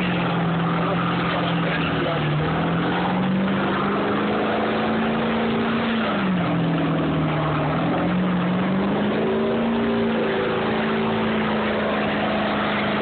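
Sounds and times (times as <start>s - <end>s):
engine revving high: 0.0s - 13.0s.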